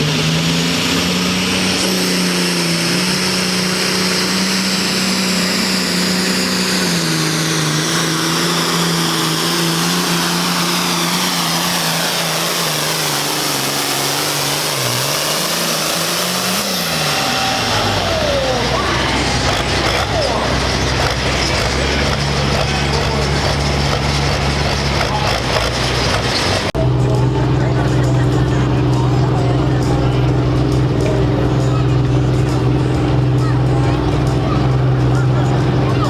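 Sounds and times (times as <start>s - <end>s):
pulling vehicle engine at full throttle: 0.0s - 36.0s.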